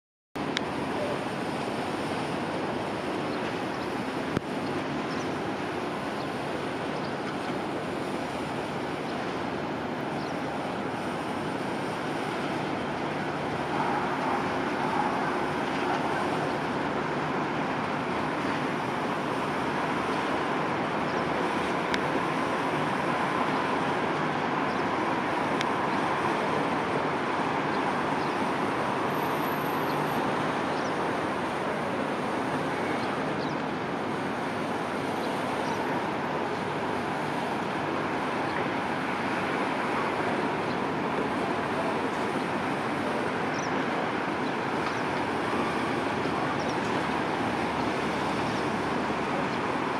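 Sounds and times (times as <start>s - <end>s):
distant jet engines rumbling: 0.4s - 49.9s
road traffic noise: 0.4s - 49.9s.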